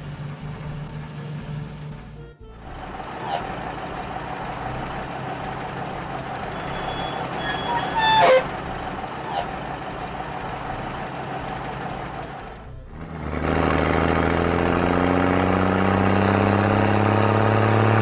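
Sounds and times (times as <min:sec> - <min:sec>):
cartoon truck engine running: 0:00.0 - 0:18.0.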